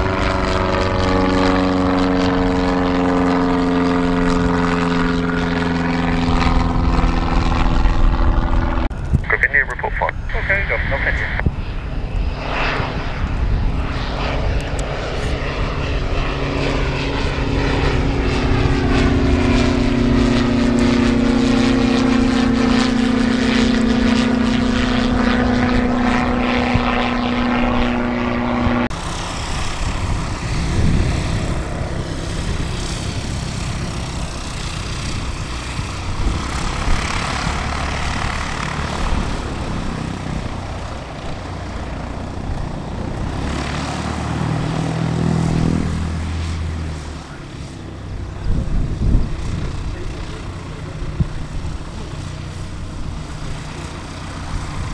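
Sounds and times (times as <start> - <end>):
propeller aircraft droning: 0.0 - 54.9.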